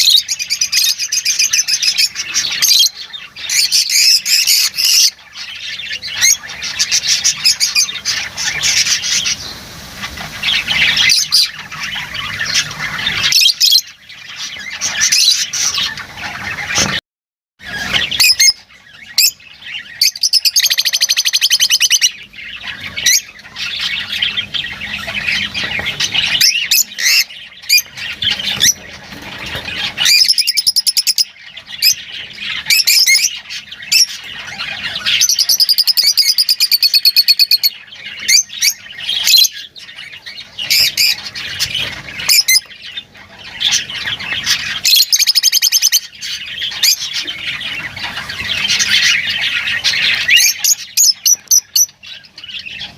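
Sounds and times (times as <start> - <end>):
lovebirds chirping and squawking: 0.0 - 17.0, 17.6 - 52.9.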